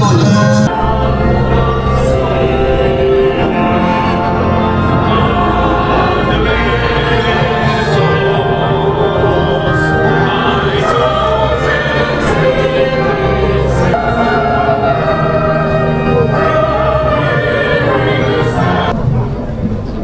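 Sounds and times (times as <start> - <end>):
choir singing long notes: 0.1 - 19.0.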